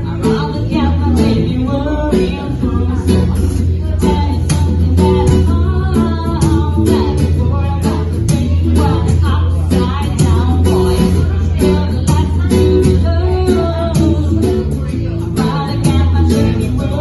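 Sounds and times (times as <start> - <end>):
bass: 0.0 - 17.0
guitar: 0.0 - 17.0
person singing: 0.0 - 17.0.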